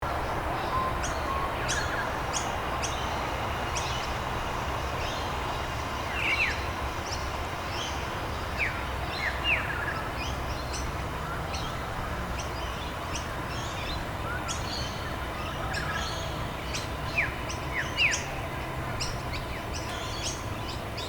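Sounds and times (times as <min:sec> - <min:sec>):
small birds chirping: 0:00.5 - 0:21.0.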